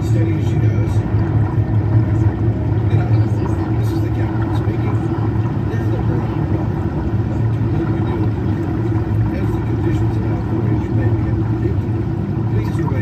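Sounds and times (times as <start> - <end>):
air bubbles crackling: 0.0 - 13.0
low rumble and hum: 0.0 - 13.0.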